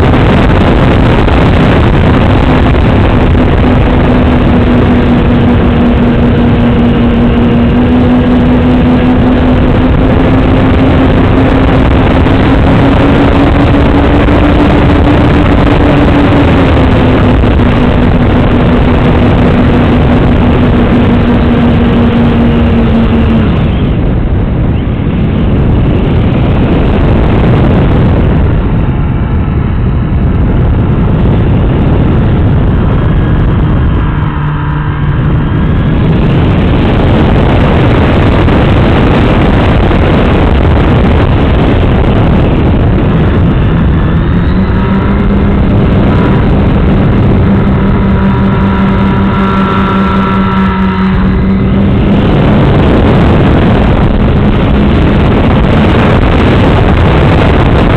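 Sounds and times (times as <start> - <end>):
wind rush on microphone: 0.0 - 57.9.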